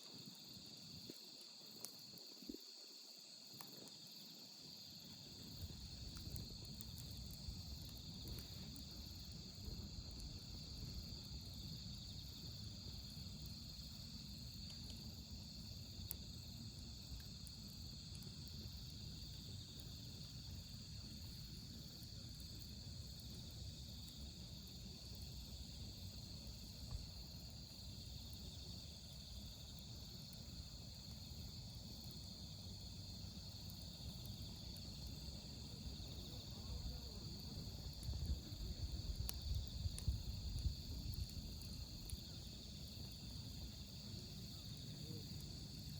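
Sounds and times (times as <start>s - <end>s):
crickets singing: 0.1s - 45.9s
wood fire crackling: 3.5s - 45.9s.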